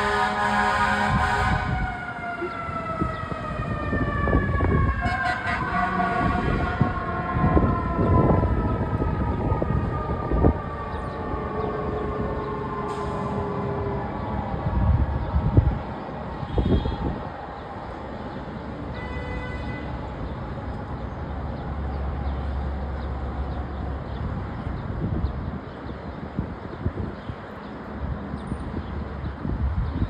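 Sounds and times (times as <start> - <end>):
fire truck engine rumble: 0.0 - 30.0.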